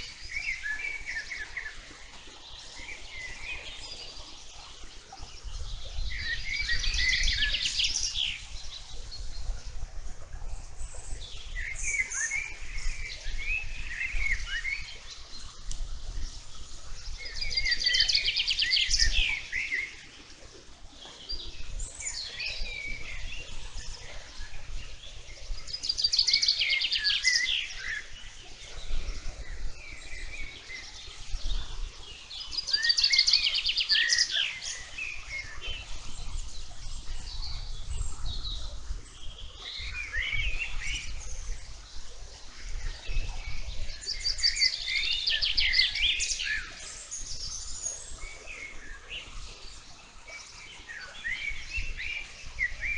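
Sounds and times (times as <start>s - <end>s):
bird song with fast trill: 2.6s - 15.6s, 16.2s - 20.4s, 21.0s - 52.9s.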